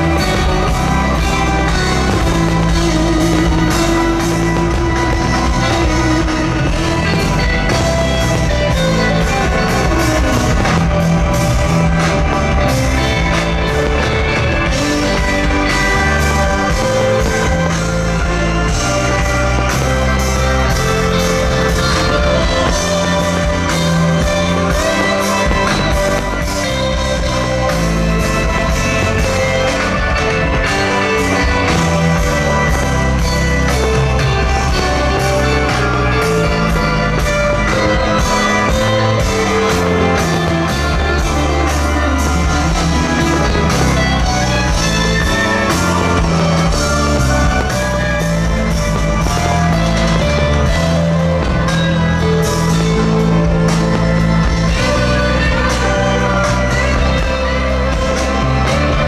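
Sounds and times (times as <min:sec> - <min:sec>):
rock music with guitar: 0:00.0 - 0:59.0.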